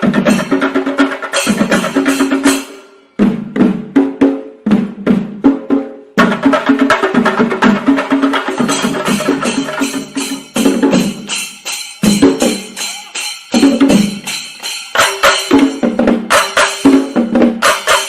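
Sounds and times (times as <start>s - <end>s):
drums beaten with sticks: 0.0s - 18.0s.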